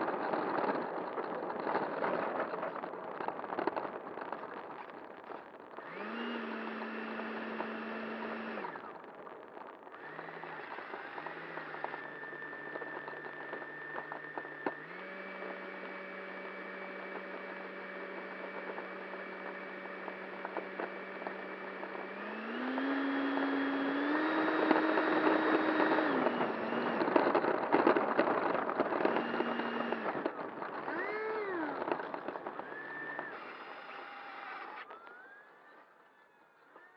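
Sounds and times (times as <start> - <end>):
electric ducted fan whine: 5.8 - 36.9.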